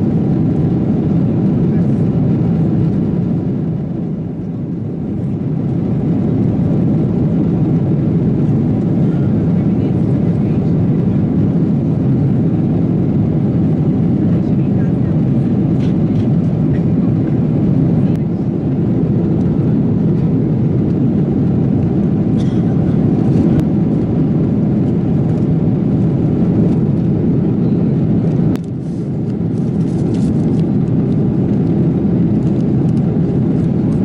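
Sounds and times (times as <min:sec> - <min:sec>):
airplane engines and airflow rush: 0:00.0 - 0:34.0.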